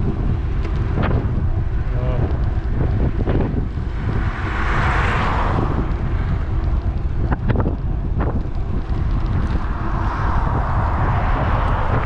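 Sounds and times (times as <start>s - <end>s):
vehicle passing: 0.0s - 12.0s
wind buffeting microphone: 0.0s - 12.0s.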